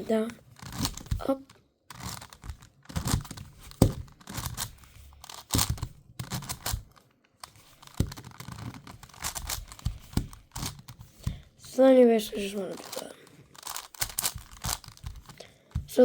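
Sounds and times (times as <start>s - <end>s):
puzzle cube layers clicking: 0.0s - 16.0s.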